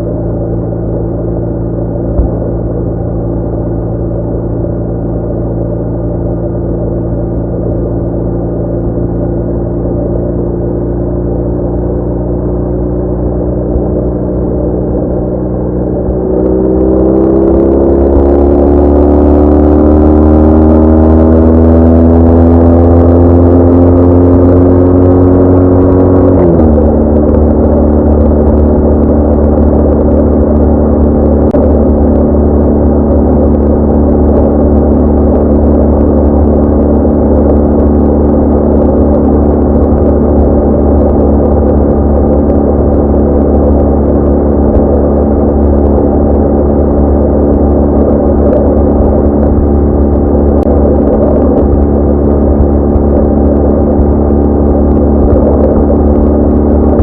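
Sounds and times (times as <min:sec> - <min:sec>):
motorcycle engine accelerating: 0:00.0 - 0:57.0
road and wind noise: 0:00.0 - 0:57.0.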